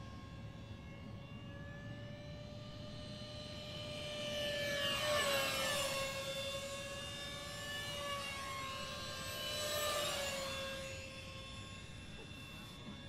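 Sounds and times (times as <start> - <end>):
model jets whining overhead: 0.0 - 13.0.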